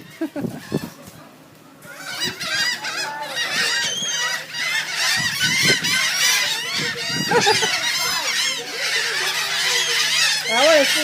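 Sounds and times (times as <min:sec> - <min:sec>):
gulls squawking: 0:00.0 - 0:01.2, 0:01.8 - 0:11.0.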